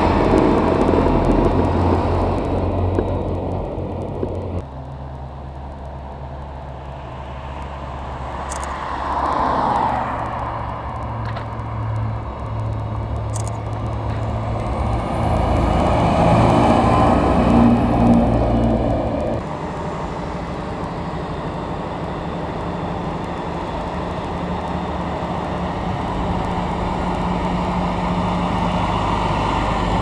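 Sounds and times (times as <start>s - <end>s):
road noise rush: 0.0s - 30.0s
tractor engine running: 0.0s - 30.0s.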